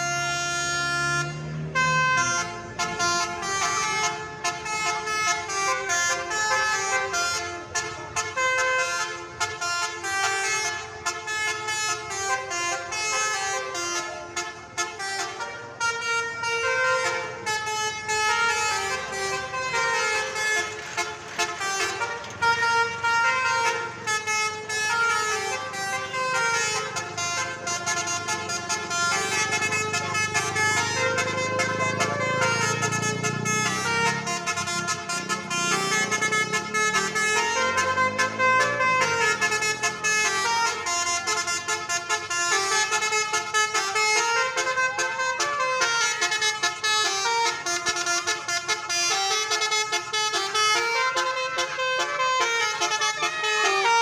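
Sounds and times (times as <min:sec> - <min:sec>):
multi-tone bus horn melody: 0:00.0 - 0:54.0.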